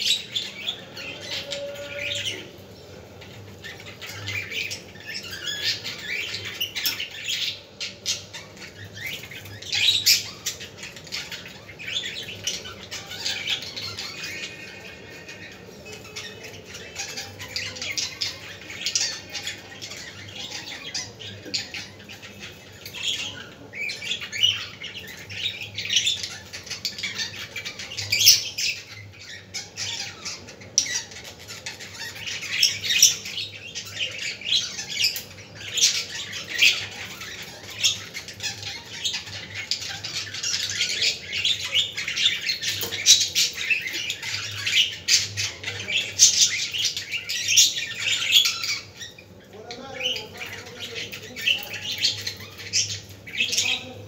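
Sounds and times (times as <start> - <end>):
budgerigars chirping and squawking: 0.0 - 54.0.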